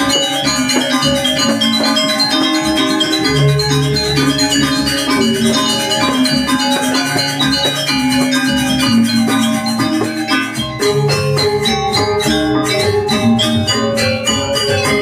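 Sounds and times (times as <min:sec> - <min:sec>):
gamelan playing: 0:00.0 - 0:15.0
metallophones ringing in quick runs: 0:00.0 - 0:15.0.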